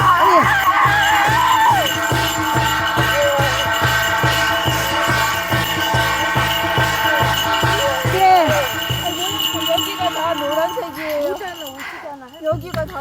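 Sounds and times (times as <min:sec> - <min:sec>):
bells jingling: 0:00.0 - 0:13.0
drum beaten steadily: 0:00.0 - 0:13.0
metal ringing: 0:00.0 - 0:13.0.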